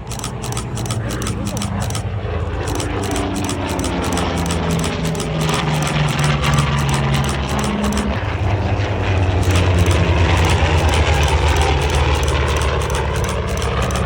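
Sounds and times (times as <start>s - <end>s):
aircraft engines droning: 0.0s - 14.0s.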